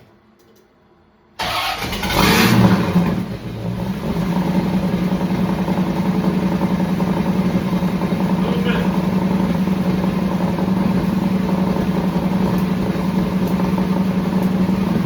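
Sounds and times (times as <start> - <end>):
car engine starting and idling: 1.4 - 15.0.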